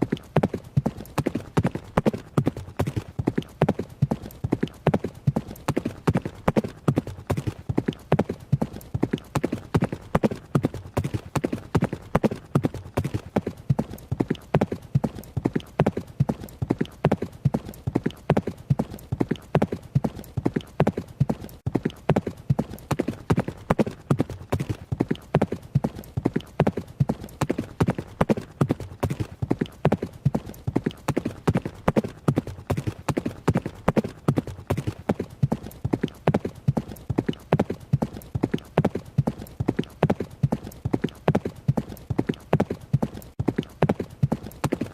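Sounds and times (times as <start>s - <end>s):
horse hoofbeats galloping: 0.0s - 44.9s.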